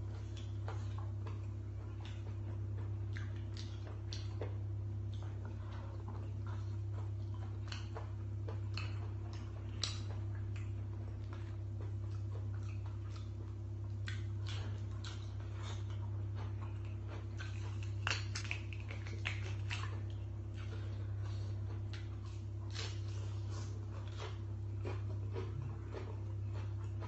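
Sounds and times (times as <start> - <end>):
person chewing with mouth clicks: 0.1 - 27.0.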